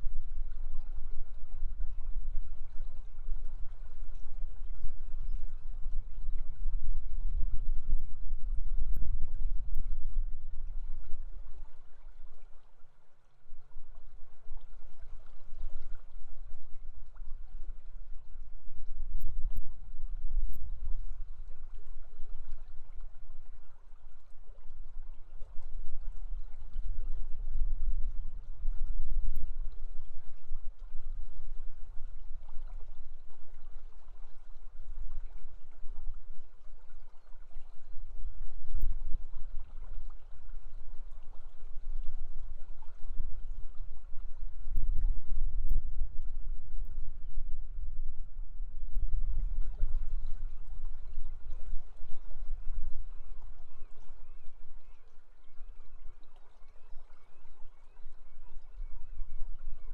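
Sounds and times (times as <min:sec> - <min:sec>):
river water running: 0:00.0 - 0:59.9
wind rumbling on microphone: 0:00.0 - 0:59.9.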